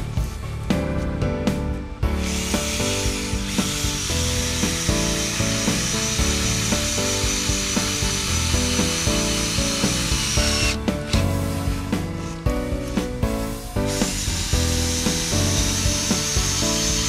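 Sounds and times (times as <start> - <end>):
music with steady beat: 0.0 - 17.0
cordless drill driving screw: 2.2 - 13.1, 13.8 - 17.0.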